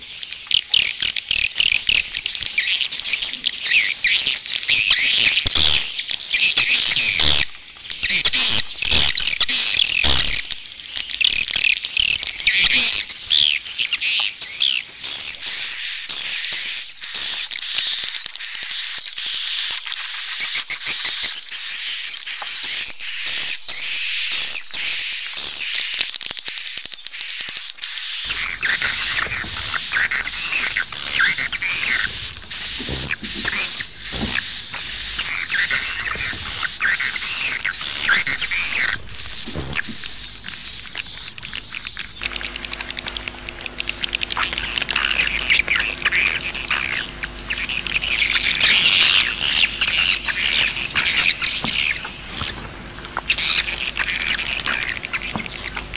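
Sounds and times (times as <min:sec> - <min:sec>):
swiftlets chirping and twittering: 0:00.0 - 0:55.9.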